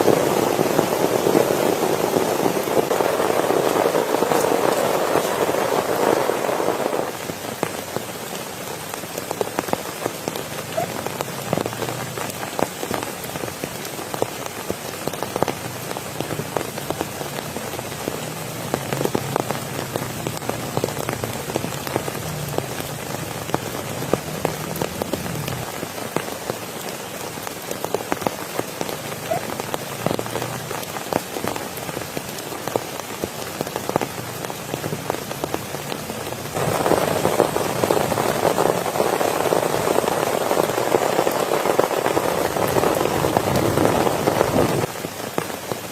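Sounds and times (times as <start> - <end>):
rain drops tapping: 0.0 - 45.9.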